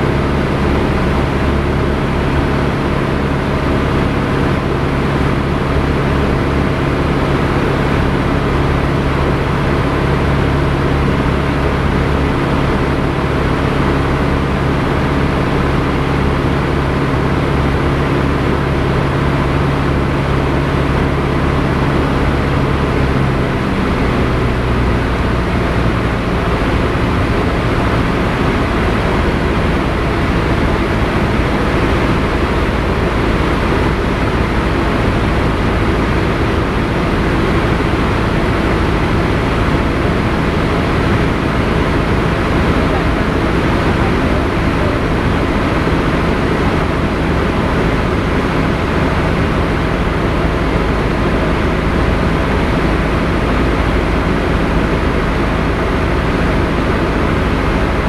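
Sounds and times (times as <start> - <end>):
air noise over airframe: 0.0 - 58.0
propeller plane engine droning: 0.0 - 58.0.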